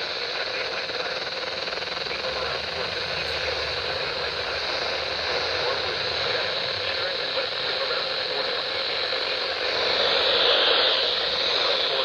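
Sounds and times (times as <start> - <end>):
radio static hiss: 2.0 - 12.0.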